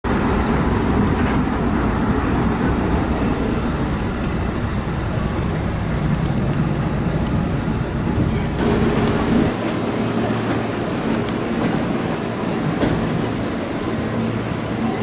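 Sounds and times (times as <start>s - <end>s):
train wheels on rails: 0.1s - 15.0s.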